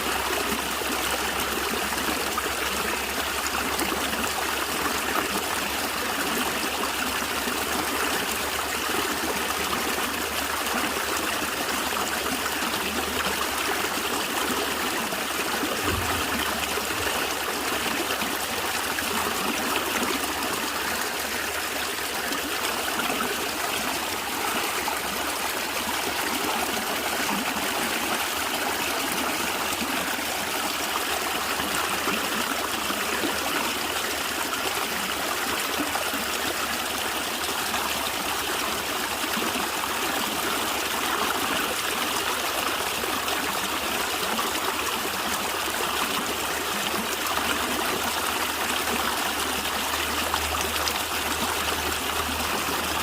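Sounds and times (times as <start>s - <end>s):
stream gurgling over stones: 0.0s - 53.0s.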